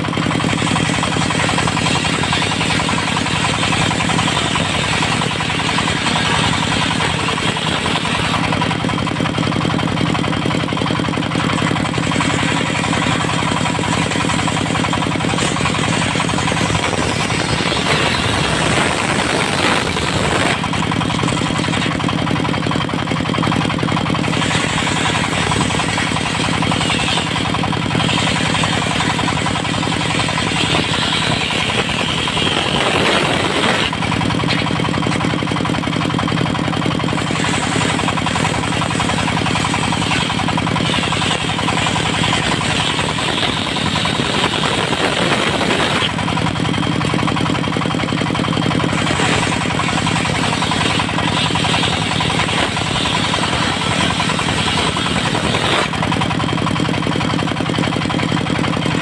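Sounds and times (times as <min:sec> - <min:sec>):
circular saw cutting wood: 0:00.0 - 0:59.0
drive engine running: 0:00.0 - 0:59.0.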